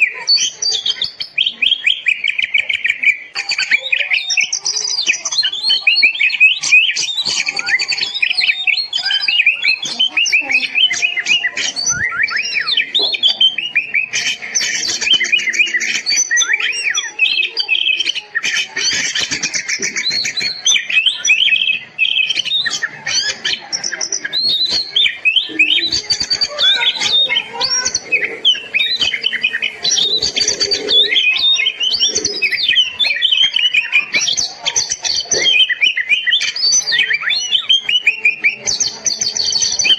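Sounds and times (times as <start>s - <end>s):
bird song with whistles and trills: 0.0s - 39.9s.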